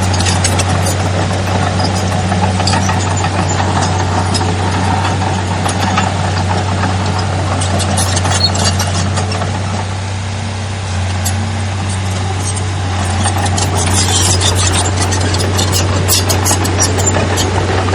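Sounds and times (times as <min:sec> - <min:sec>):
diesel machinery engine droning: 0:00.0 - 0:17.9.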